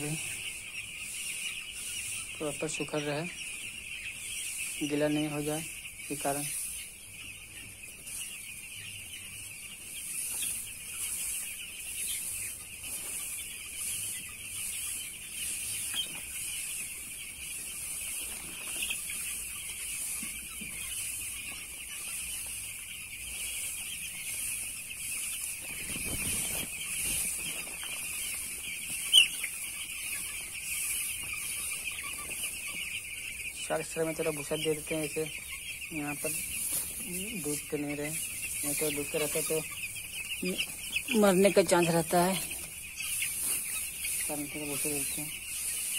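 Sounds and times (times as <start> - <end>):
chicks peeping: 0.0 - 45.9.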